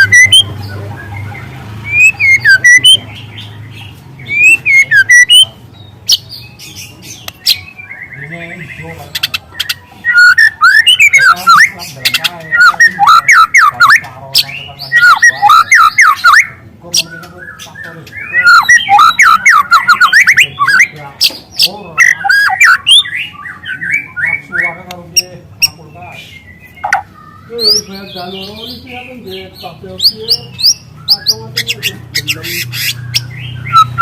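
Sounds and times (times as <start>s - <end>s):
bird singing rapid chirps: 0.0s - 34.0s.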